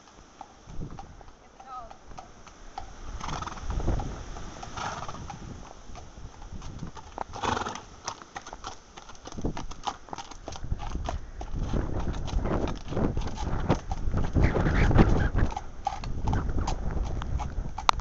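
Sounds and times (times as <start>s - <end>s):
horse hooves clip-clopping: 0.0s - 18.0s
wind buffeting microphone: 0.6s - 1.3s, 2.0s - 7.9s, 9.2s - 18.0s.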